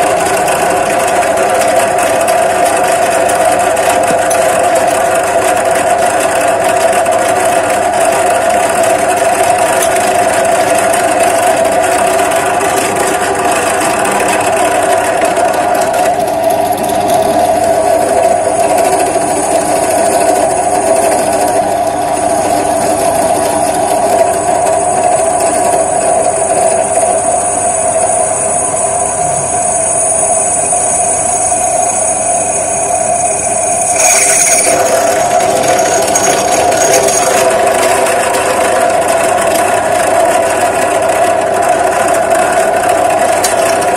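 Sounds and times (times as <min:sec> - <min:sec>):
drill bit cutting steel whine: 0:00.0 - 0:43.9
drill press motor running: 0:00.0 - 0:43.9.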